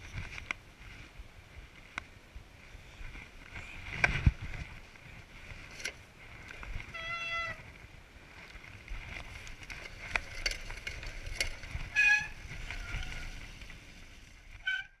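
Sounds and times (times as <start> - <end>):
bike rattling over bumps: 0.0 - 15.0
bike tyres rumbling on dirt: 0.0 - 15.0.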